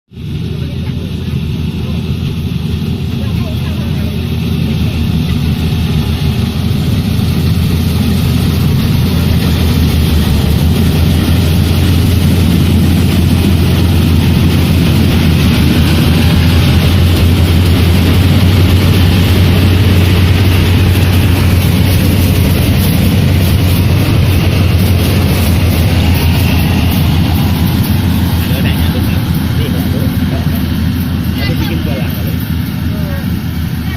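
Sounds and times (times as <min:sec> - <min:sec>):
harvesting machine engine running: 0:00.2 - 0:33.9.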